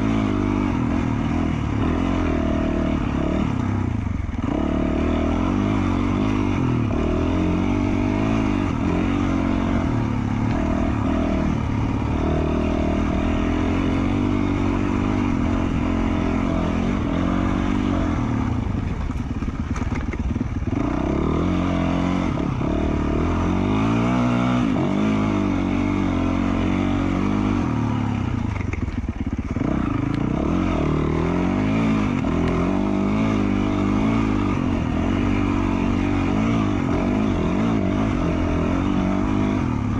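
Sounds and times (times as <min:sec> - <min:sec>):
dirt bike engine revving under load: 0:00.0 - 0:39.9.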